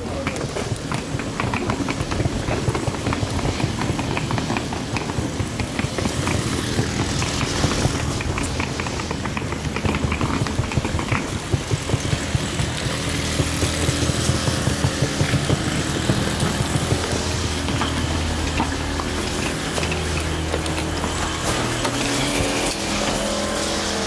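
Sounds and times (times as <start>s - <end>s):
suitcase wheels rattling on pavement: 0.0s - 24.0s.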